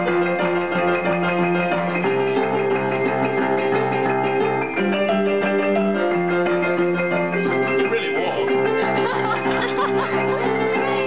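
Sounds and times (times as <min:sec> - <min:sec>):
rock and roll piano: 0:00.0 - 0:11.0.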